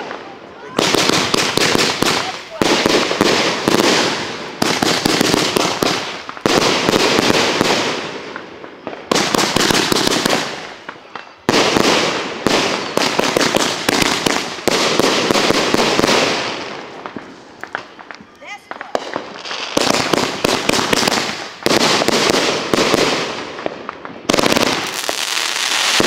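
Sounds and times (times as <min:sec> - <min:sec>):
firework bangs: 0:00.0 - 0:26.0
firework crackling: 0:00.0 - 0:26.0.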